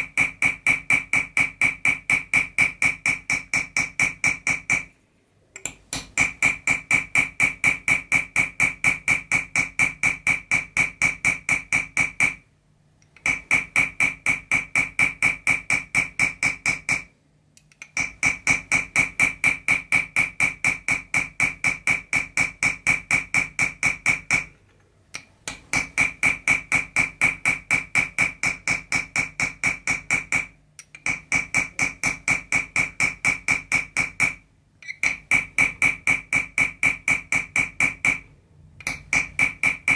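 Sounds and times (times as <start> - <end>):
hammer tapping metal tool: 0.0 - 39.9.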